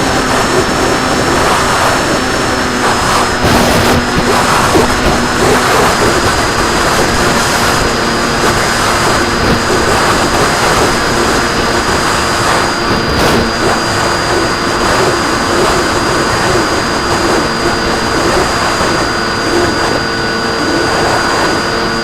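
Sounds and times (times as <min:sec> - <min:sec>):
model plane motor and propeller: 0:00.0 - 0:22.0
thin high whine: 0:00.0 - 0:22.0
wind rushing over microphone: 0:00.0 - 0:22.0.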